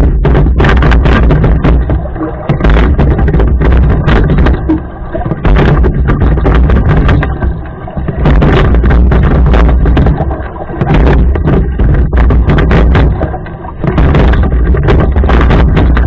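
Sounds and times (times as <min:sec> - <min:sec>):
water rushing past boat: 0:00.0 - 0:16.0.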